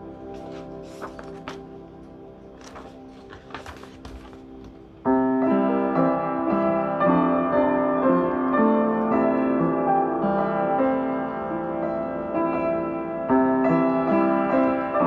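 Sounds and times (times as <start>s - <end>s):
piano notes and chords: 0.0s - 15.0s.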